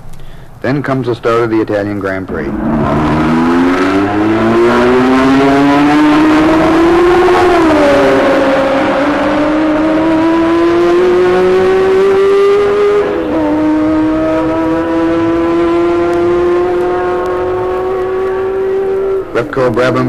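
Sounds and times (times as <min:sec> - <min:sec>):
racing car engine accelerating: 0:02.2 - 0:20.0.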